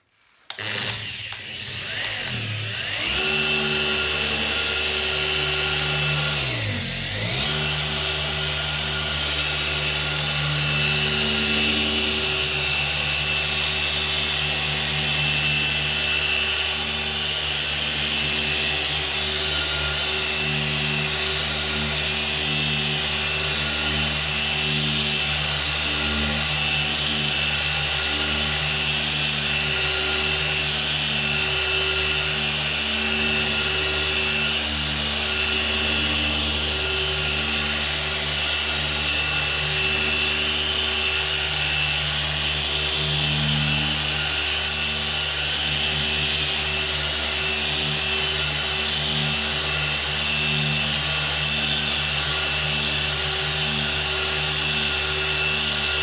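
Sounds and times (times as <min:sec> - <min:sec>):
machine polisher running: 0:00.4 - 0:56.0.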